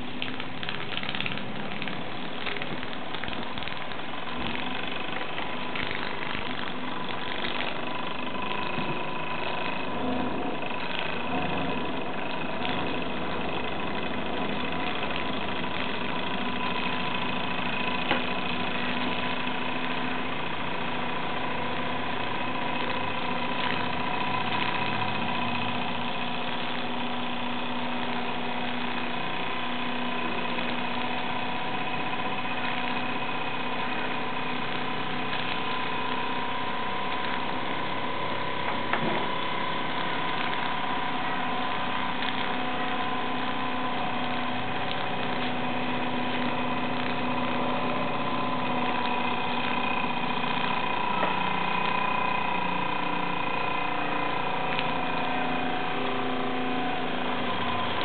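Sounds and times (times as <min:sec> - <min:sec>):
model steam engine running: 0:00.0 - 0:58.0.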